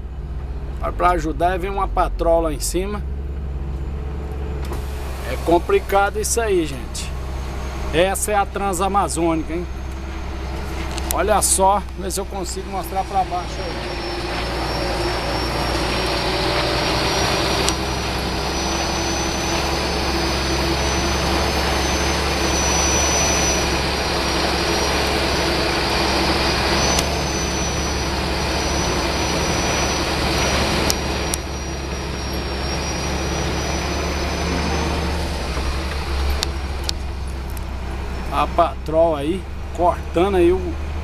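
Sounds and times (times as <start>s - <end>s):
high whine: 0.0s - 40.9s
truck diesel engine pulling hard: 0.0s - 41.0s.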